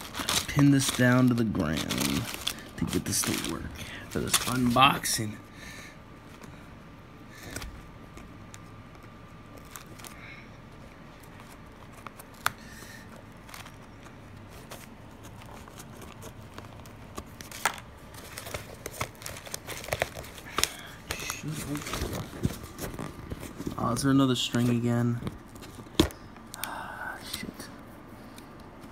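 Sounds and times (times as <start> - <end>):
paper rustling and crinkling: 0.0 - 5.3, 7.4 - 26.2.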